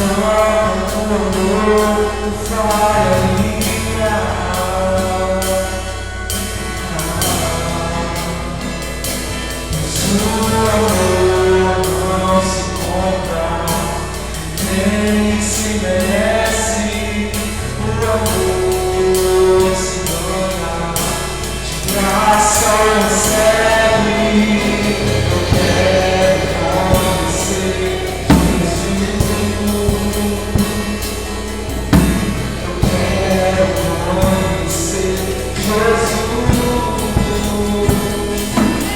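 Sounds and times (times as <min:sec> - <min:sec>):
person singing: 0:00.0 - 0:09.2, 0:09.8 - 0:38.9
acoustic guitar: 0:00.0 - 0:38.9
drum kit with cymbals: 0:00.0 - 0:38.9.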